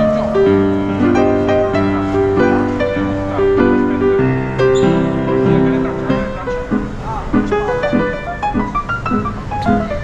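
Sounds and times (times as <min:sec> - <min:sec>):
piano background music: 0:00.0 - 0:10.0.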